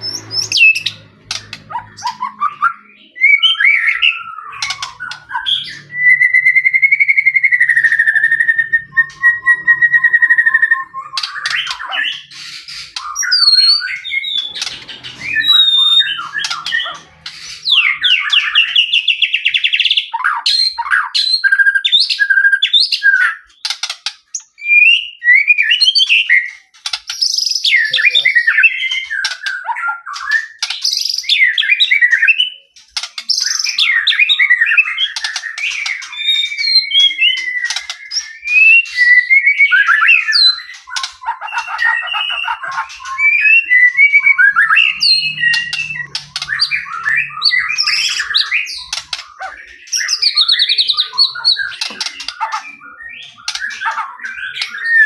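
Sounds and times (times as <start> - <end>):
songbird singing whistles and trills: 0.0 - 55.0.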